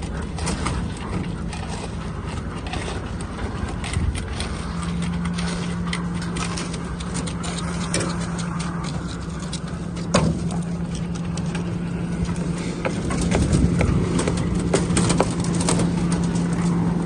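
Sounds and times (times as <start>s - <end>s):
machinery engine running: 0.0s - 17.0s
metallic clattering and clanking: 0.0s - 17.0s.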